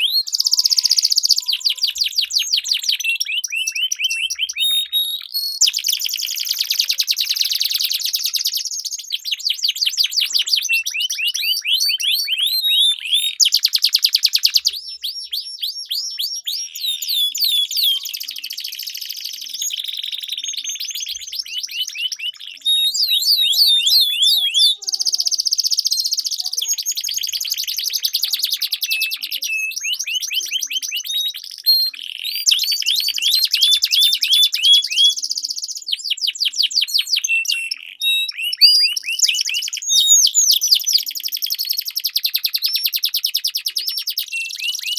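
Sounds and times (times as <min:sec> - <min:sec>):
canaries singing: 0:00.0 - 0:44.9.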